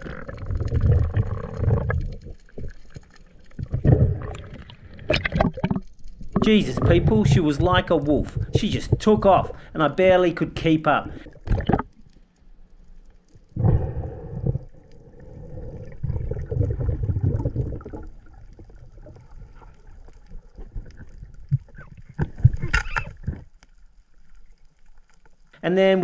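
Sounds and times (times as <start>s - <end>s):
muffled underwater bubbling: 0.0s - 12.1s, 13.4s - 23.4s.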